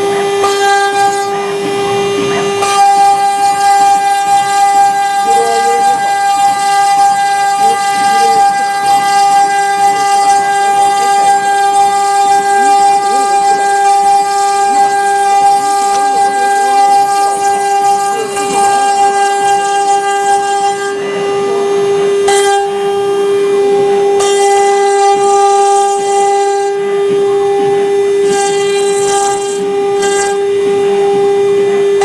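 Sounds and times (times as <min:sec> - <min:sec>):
router spindle whining: 0:00.0 - 0:32.0.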